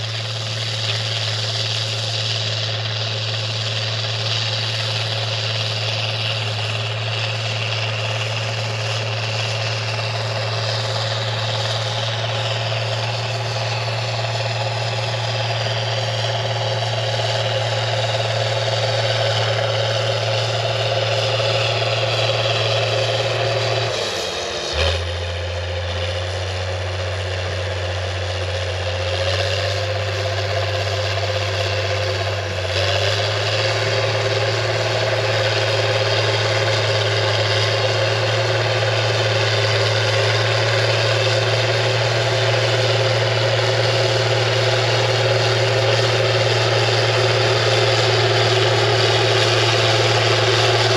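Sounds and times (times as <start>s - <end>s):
diesel dozer engine running: 0.0s - 50.9s
engine clunk: 0.0s - 50.9s.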